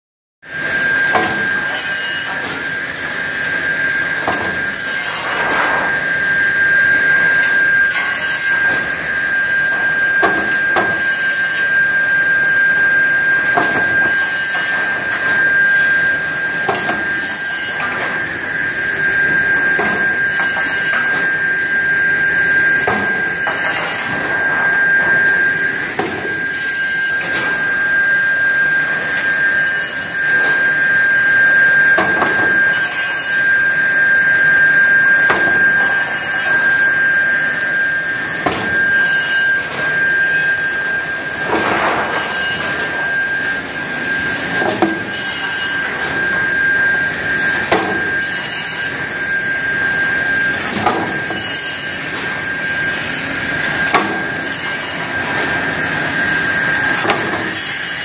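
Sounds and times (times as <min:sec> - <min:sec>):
saw whining: 0:00.5 - 0:58.0
boards being cut and knocking: 0:00.6 - 0:30.8, 0:31.5 - 0:34.1, 0:34.7 - 0:58.0.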